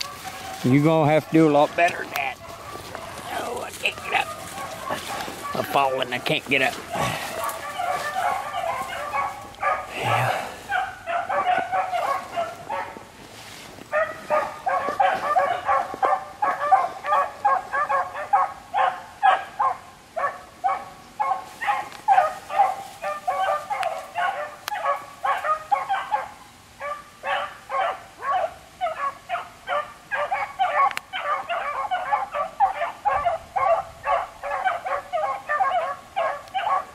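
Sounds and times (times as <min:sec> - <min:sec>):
dogs baying: 0:00.0 - 0:36.9.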